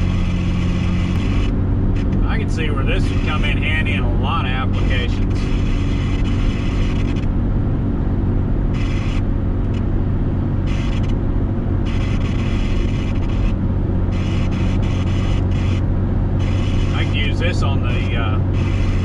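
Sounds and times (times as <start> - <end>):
engine and road noise in cab: 0.0 - 19.0.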